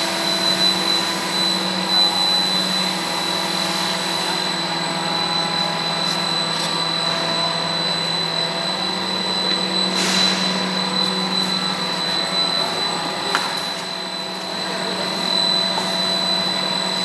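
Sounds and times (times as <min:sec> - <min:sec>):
high steady whine: 0:00.0 - 0:17.0
machine motors droning: 0:00.0 - 0:17.0.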